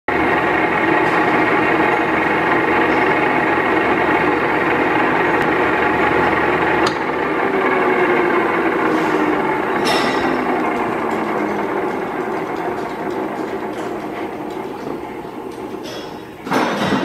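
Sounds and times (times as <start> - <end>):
lathe running with whine: 0.1 - 17.0.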